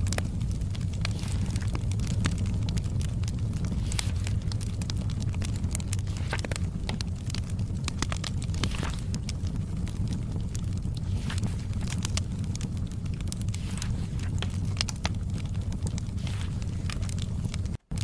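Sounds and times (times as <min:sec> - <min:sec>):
low fire rumble: 0:00.0 - 0:18.0
wood fire crackling and popping: 0:00.0 - 0:18.0.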